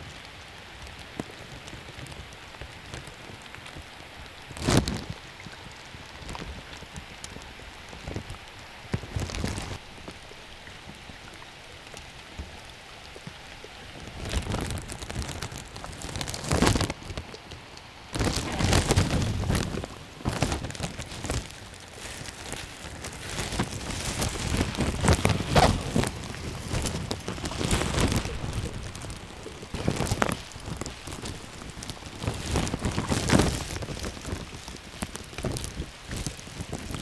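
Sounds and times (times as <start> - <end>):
rain falling and pattering: 0.0 - 37.0
sharp raindrop ticks and knocks: 0.1 - 37.0.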